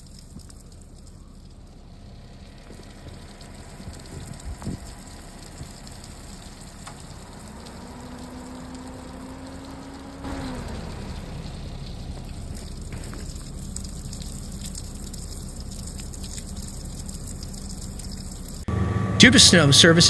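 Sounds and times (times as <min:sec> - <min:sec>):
hiss of water: 0:00.0 - 0:18.7
low hum: 0:00.0 - 0:20.0
wet street noise: 0:00.0 - 0:20.0.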